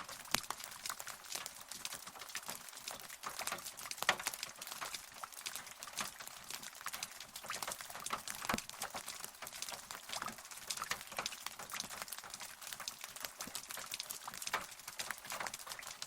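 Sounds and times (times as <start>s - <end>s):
rain patter: 0.0s - 16.0s.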